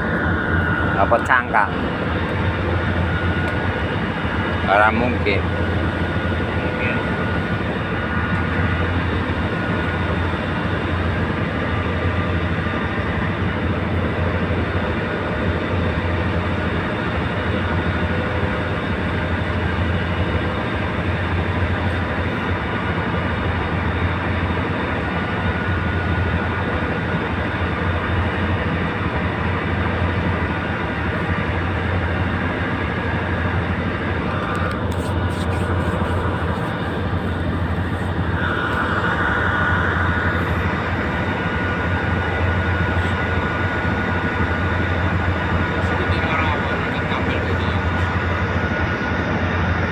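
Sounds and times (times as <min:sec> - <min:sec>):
boat engine droning: 0:00.0 - 0:49.9.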